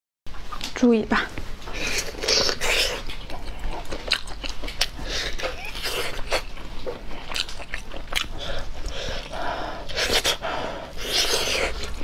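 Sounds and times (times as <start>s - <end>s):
biting and chewing meat: 0.3s - 0.8s, 1.5s - 12.0s
noisy mouth sounds: 1.7s - 6.6s, 7.2s - 12.0s.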